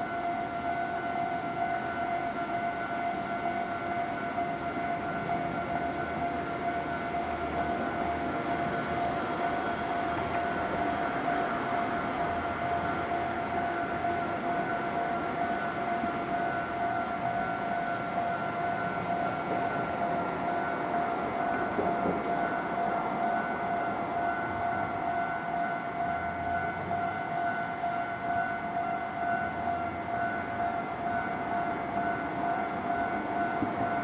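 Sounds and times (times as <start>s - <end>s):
level-crossing warning bell: 0.0s - 34.0s.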